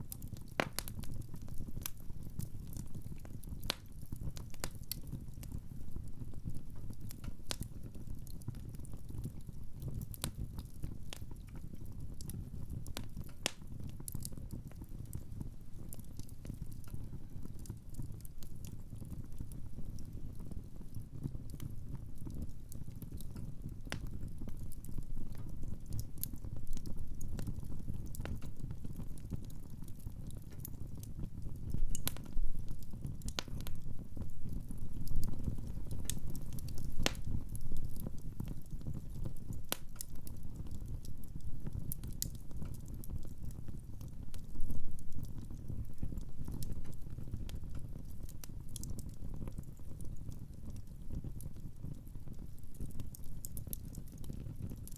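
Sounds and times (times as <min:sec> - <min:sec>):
low rumble of flames: 0:00.0 - 0:54.9
wood fire crackling in fireplace: 0:00.0 - 0:54.9.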